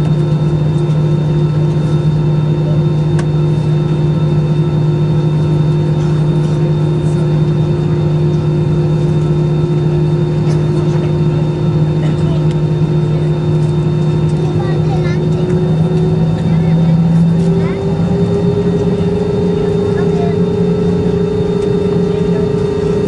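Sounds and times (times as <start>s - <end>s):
jet engines idling drone: 0.0s - 23.0s.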